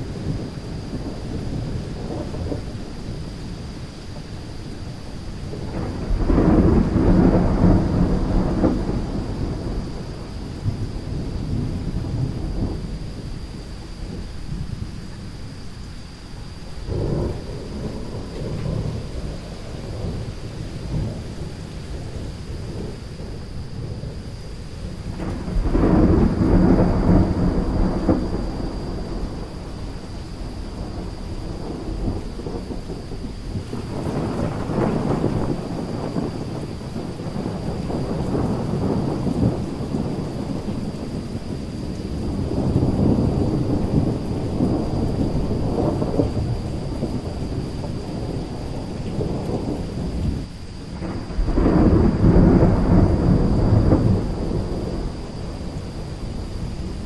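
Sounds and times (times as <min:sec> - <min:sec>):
steady rain: 0:00.0 - 0:57.0
thunder rolling: 0:00.0 - 0:57.0.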